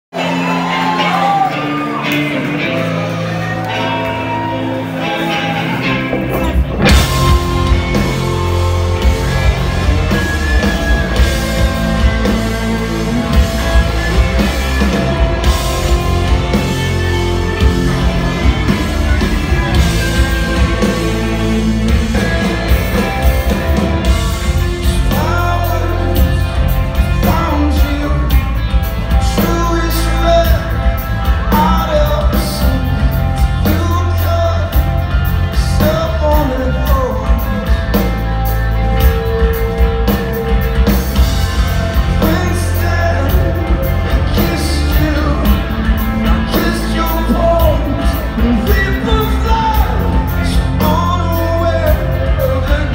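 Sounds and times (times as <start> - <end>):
live rock band playing: 0.1 - 52.9
person singing: 0.3 - 52.9.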